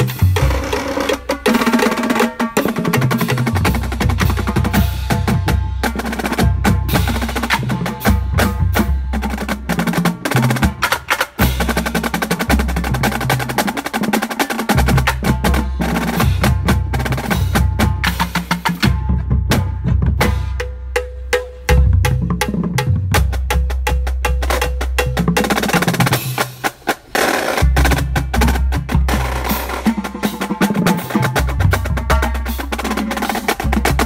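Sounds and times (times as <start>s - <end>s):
pitched bass drums: 0.0s - 34.0s
snare drums playing fast rhythms: 0.0s - 34.0s.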